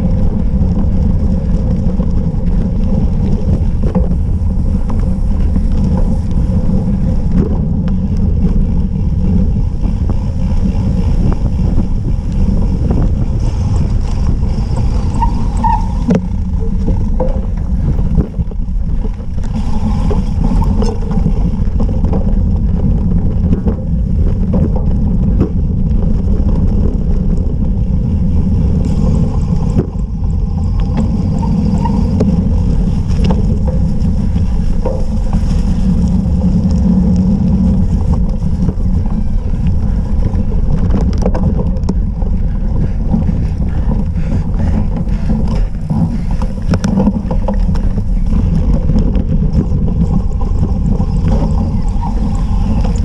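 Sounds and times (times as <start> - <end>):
bike vibration on rough ground: 0.0 - 53.0
wind rumble: 0.0 - 53.0.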